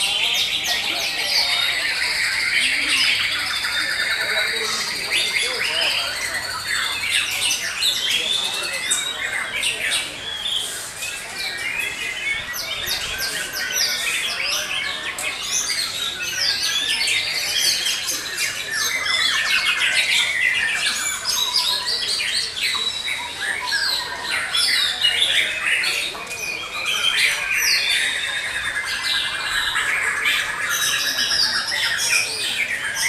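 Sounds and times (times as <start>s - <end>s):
songbirds singing chorus: 0.0s - 33.0s.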